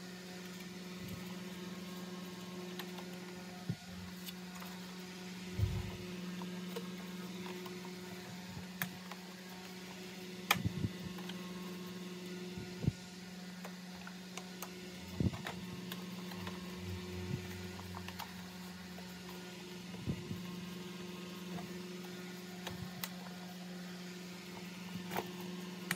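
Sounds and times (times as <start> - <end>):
steady electrical hum: 0.0 - 25.9.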